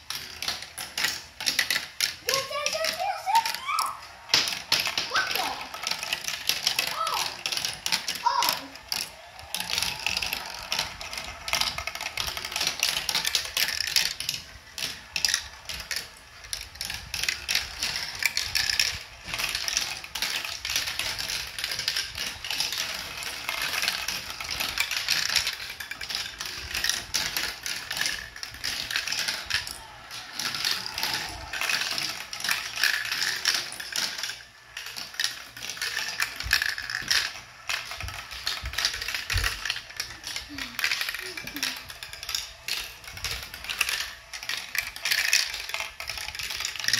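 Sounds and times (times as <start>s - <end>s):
chain elevator clicking: 0.0s - 46.9s
marbles rolling and clattering: 0.0s - 46.9s.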